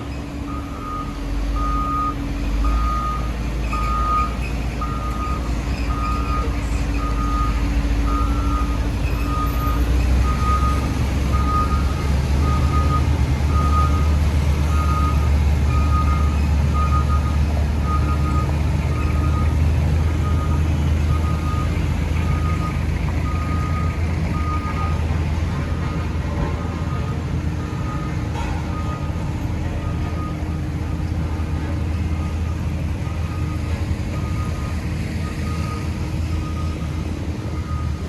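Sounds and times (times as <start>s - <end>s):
reversing alarm beeping: 0.0s - 25.1s, 25.9s - 31.0s, 32.1s - 38.0s
diesel engine rumble: 0.0s - 38.0s.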